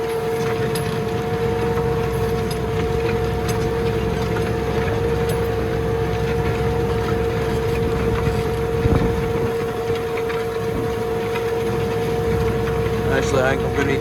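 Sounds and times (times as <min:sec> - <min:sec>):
steady whine: 0:00.0 - 0:14.0
tractor engine drone: 0:00.0 - 0:14.0.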